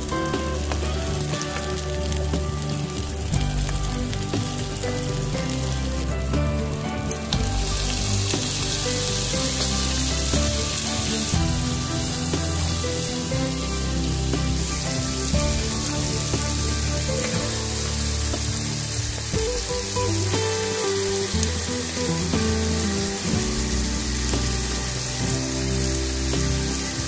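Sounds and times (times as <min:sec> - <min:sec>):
background music with low notes: 0:00.0 - 0:27.0
food sizzling in hot oil: 0:00.0 - 0:27.0.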